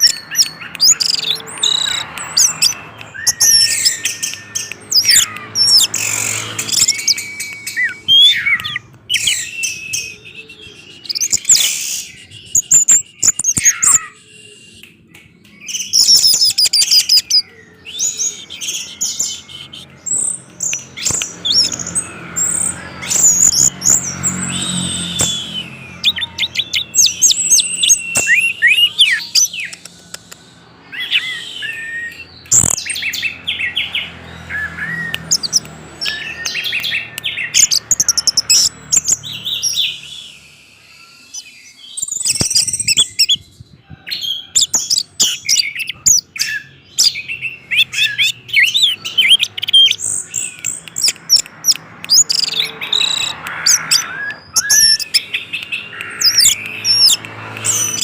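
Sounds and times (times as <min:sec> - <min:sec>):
thrush singing: 0:00.0 - 0:42.0, 0:45.1 - 0:58.0.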